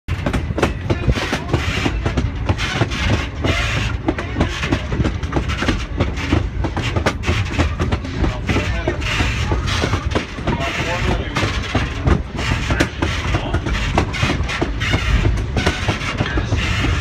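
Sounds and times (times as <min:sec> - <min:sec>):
train car rumbling on track: 0:00.1 - 0:17.0
wheels clicking over rail: 0:00.1 - 0:17.0.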